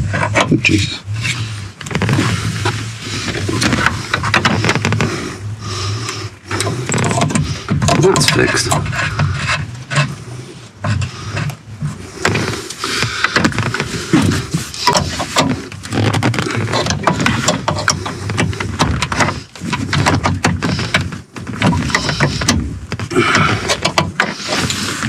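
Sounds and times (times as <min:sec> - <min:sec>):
small hard parts clicking and rattling: 0:01.8 - 0:05.2, 0:06.0 - 0:10.2, 0:10.8 - 0:25.0.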